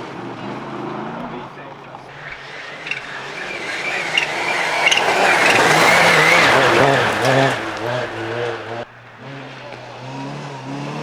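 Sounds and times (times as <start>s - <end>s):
rally car passing by: 0.0s - 11.0s.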